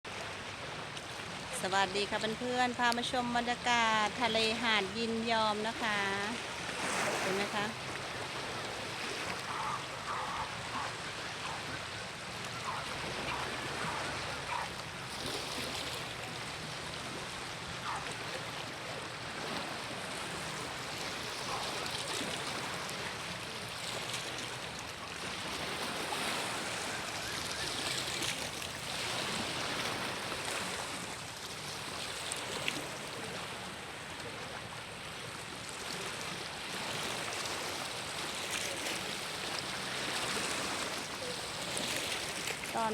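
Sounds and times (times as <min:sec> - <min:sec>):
sea waves washing ashore: 0:00.0 - 0:42.9.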